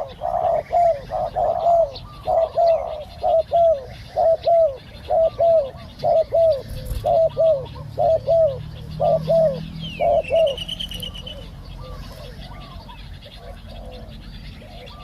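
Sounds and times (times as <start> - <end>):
dove cooing: 0.0 - 15.0
faint high bird trill: 0.0 - 15.0.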